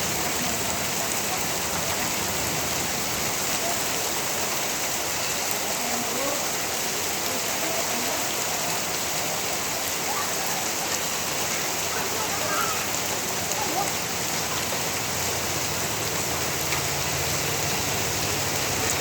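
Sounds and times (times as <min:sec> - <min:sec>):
torrential rain pouring: 0:00.0 - 0:19.0.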